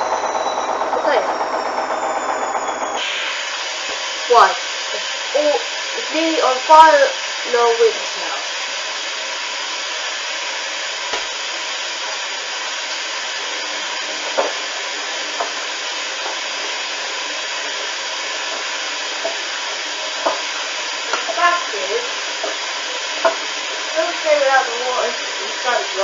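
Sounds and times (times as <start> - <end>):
washing machine drum spinning: 0.0 - 26.0.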